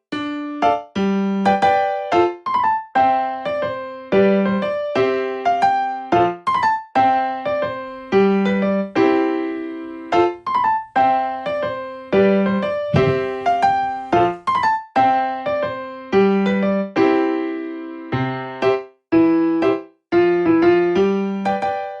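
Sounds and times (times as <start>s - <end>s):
piano-like keyboard melody: 0.0s - 22.0s.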